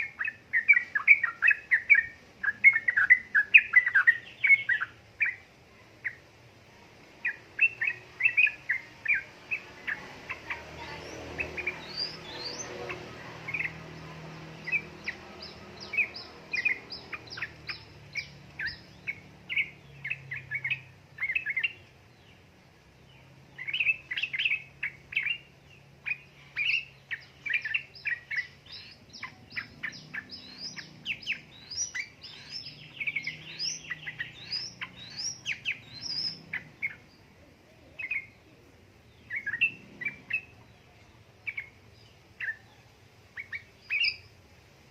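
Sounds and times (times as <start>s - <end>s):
bird chattering chirps: 0.0s - 6.2s, 7.2s - 22.4s, 23.0s - 37.3s, 39.1s - 41.8s, 43.4s - 44.3s.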